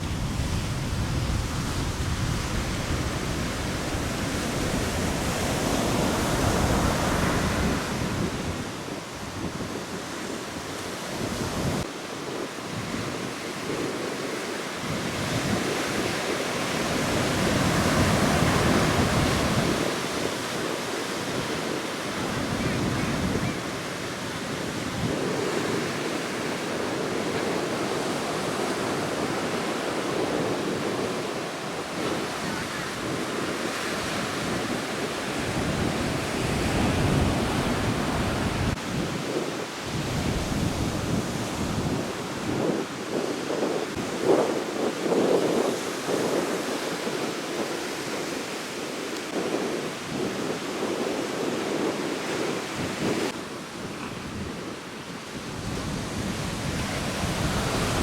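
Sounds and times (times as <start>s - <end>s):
surf breaking on beach: 0.0s - 58.0s
wind rumbling on microphone: 0.0s - 58.0s.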